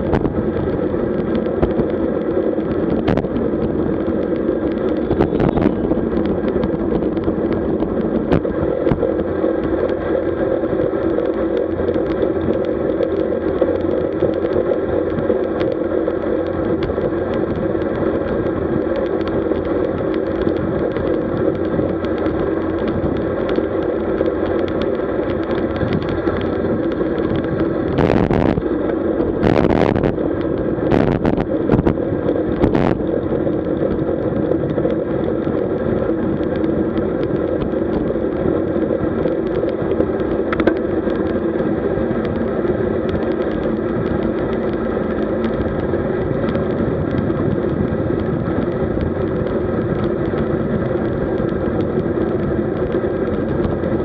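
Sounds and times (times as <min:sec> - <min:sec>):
bicycle tyre noise: 0:00.0 - 0:54.0
wind rush: 0:00.0 - 0:54.0.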